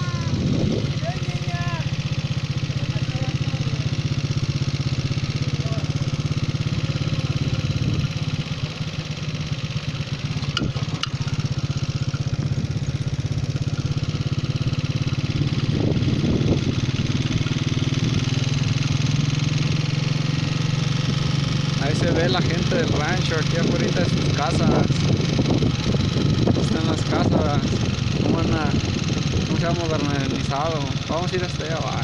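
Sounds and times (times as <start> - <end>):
small motorcycle engine: 0.0 - 32.0.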